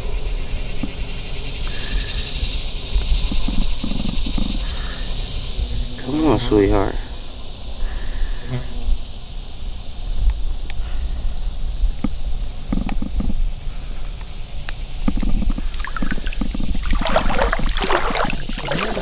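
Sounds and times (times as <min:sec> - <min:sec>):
high-pitched insect drone: 0:00.2 - 0:19.0.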